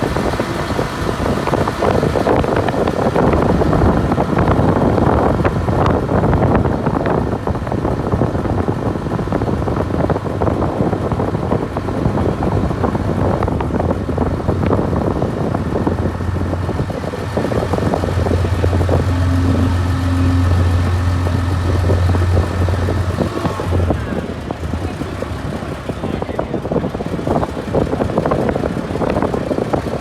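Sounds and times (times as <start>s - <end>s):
boat engine humming: 0.0s - 30.0s
wind buffeting microphone: 0.0s - 30.0s.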